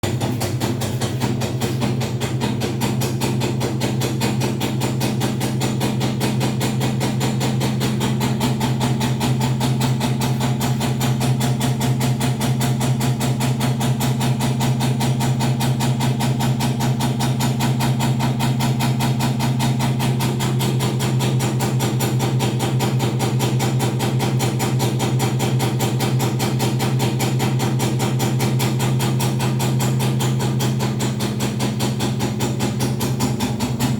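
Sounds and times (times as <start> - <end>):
washing machine drum humming: 0.0 - 33.9.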